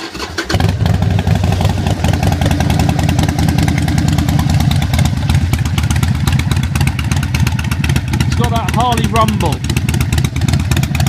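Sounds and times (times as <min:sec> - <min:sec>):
motorcycle engine idling: 0:00.3 - 0:11.0.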